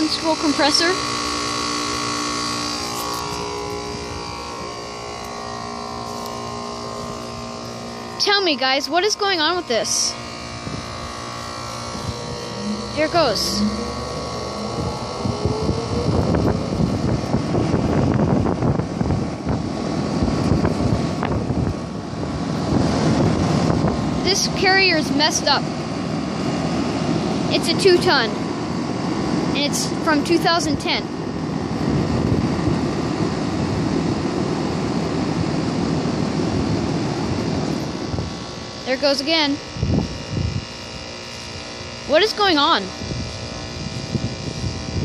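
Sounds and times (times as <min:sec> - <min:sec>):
air conditioner fan starting up: 0:00.0 - 0:45.0
compressor hum: 0:00.0 - 0:45.0.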